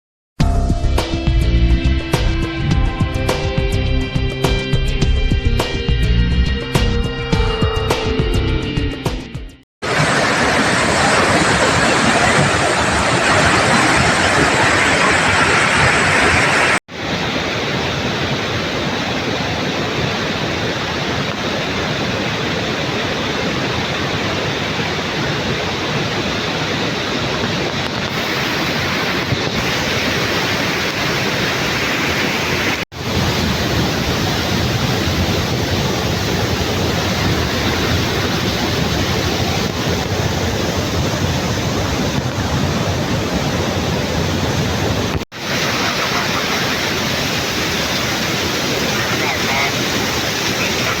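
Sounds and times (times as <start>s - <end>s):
waterfall rushing over rocks: 9.8s - 51.0s.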